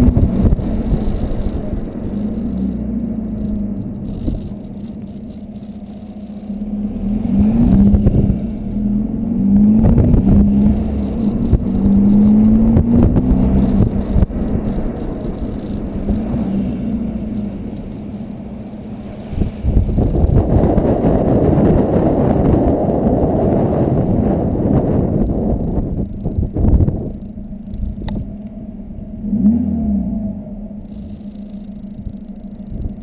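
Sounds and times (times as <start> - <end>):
diesel car engine driving: 0.0 - 33.0.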